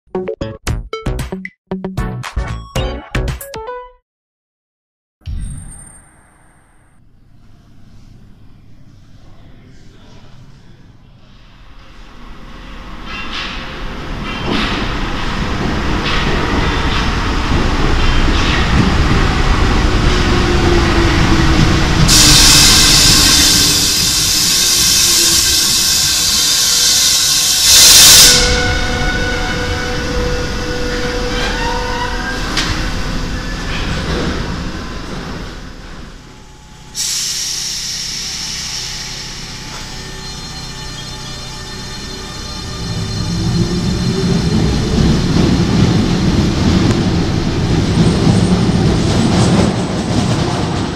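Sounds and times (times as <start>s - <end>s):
metro train rumble: 7.2s - 50.9s.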